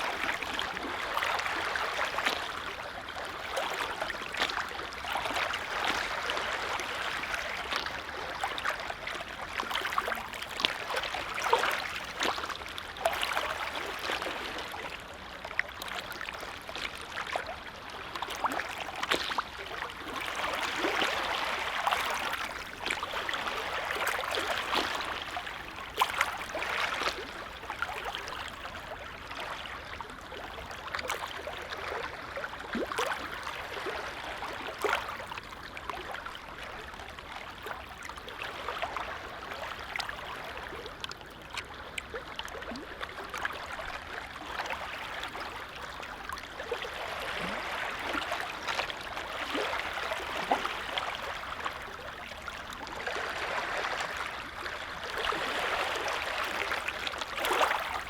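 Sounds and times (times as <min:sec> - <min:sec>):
small waves lapping and splashing: 0:00.0 - 0:58.0.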